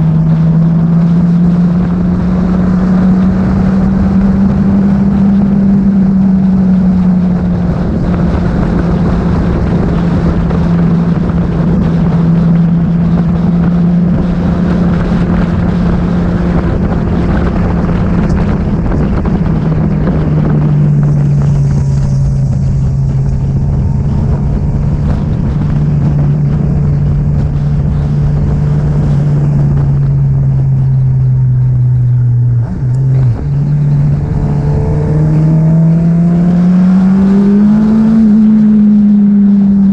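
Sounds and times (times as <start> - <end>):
vehicle engine running: 0.0 - 39.9
wind rushing over microphone: 0.0 - 39.9.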